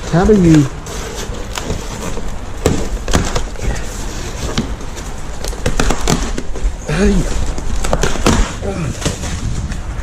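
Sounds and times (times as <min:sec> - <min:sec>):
foam and cardboard cracking: 0:00.2 - 0:10.0.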